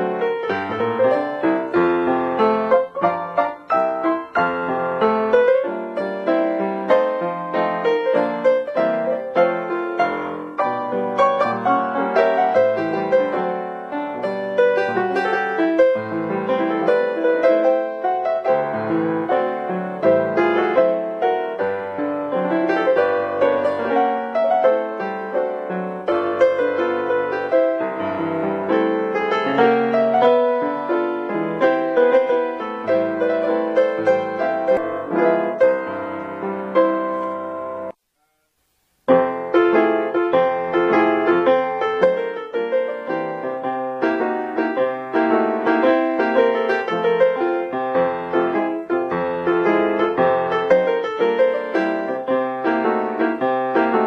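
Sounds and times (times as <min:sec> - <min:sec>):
brisk piano music: 0:00.0 - 0:38.0, 0:39.0 - 0:54.0.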